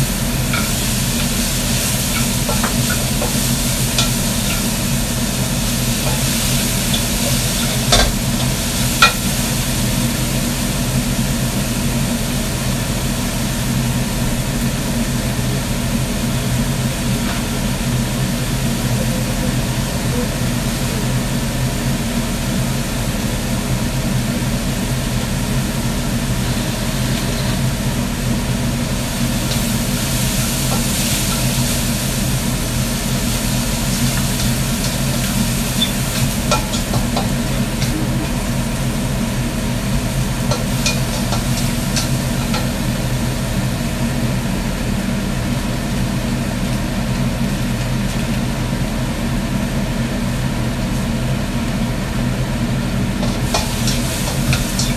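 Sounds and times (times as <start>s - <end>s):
range hood fan humming: 0.0s - 54.9s.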